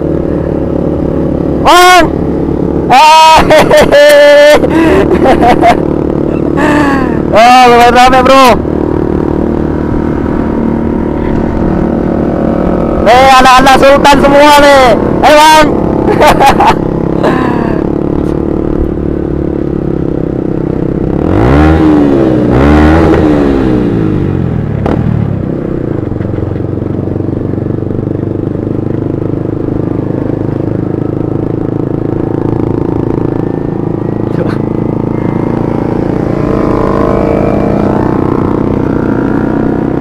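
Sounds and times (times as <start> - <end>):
motorcycle engine revving: 0.0 - 40.0
motorcycles running: 0.0 - 40.0.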